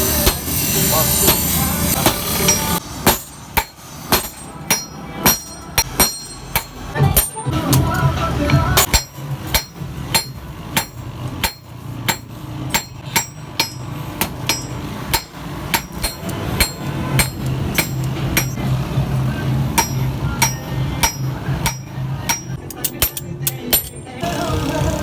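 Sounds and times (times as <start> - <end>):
hammer striking steel on anvil: 0.0 - 18.8, 19.6 - 24.2.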